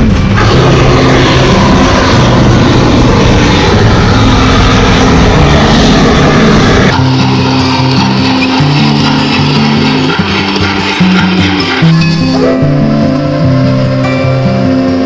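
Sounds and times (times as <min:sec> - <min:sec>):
vehicle rushing noise: 0:00.0 - 0:14.0
music with moving bass line: 0:00.0 - 0:15.0.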